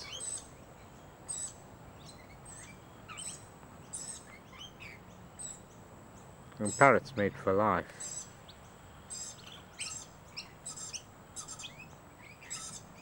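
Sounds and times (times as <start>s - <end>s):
birds chirping: 0.0s - 13.0s
faint steady background: 0.0s - 13.0s.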